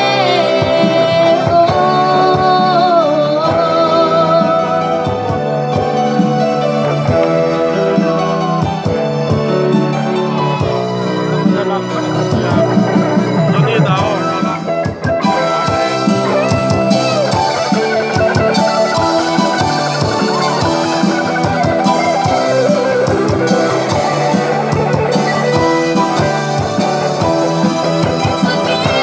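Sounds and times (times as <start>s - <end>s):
bass guitar: 0.0s - 29.0s
drum kit steady beat: 0.0s - 29.0s
electric guitar: 0.0s - 29.0s
keyboard: 0.0s - 29.0s.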